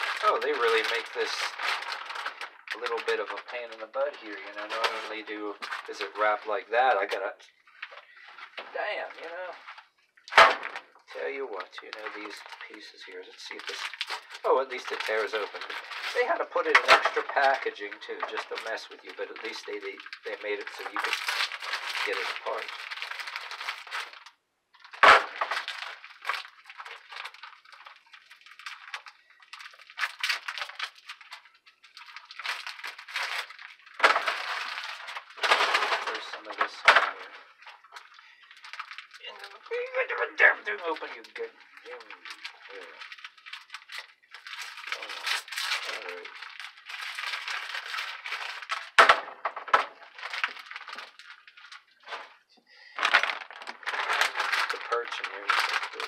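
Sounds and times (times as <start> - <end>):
plastic packaging crinkling: 0.0 - 56.0
sharp plastic crack: 0.0 - 56.0.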